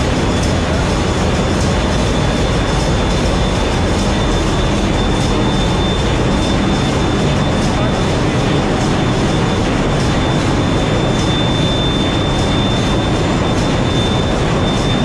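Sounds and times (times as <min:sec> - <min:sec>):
faint high whine: 0:00.0 - 0:15.0
loud machinery noise: 0:00.0 - 0:15.0.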